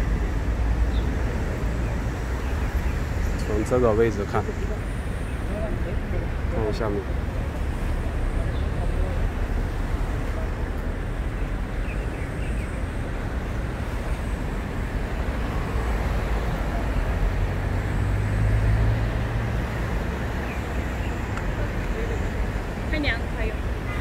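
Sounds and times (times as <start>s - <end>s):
road traffic rumble: 0.0s - 24.0s
vehicle passing with deep rumble: 0.0s - 24.0s.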